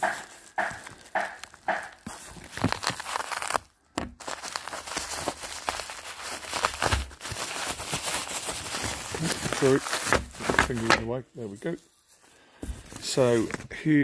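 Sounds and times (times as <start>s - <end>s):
plastic packaging crinkling and tearing: 0.0s - 13.7s.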